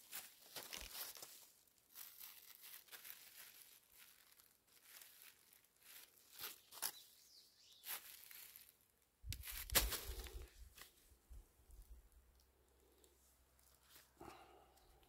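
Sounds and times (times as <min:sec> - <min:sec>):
leaves and plastic rustling: 0:00.0 - 0:14.9.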